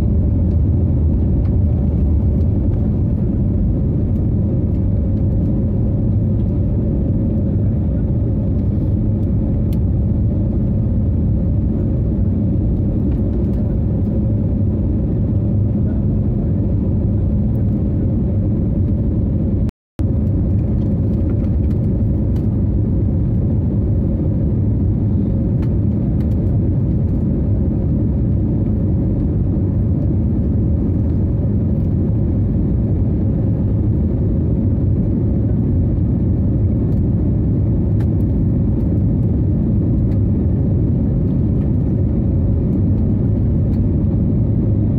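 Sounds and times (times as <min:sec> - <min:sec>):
jet airliner cabin noise: 0:00.0 - 0:44.9.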